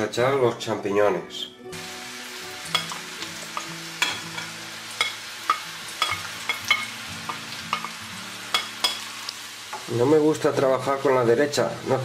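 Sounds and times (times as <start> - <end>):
mushrooms sizzling in oil: 1.7 - 12.0.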